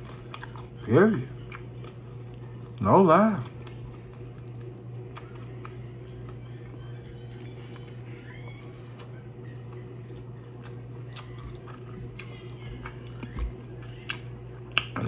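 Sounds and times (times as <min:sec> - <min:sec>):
low hum: 0:00.0 - 0:15.0
wet chewing with small crunches: 0:00.0 - 0:15.0.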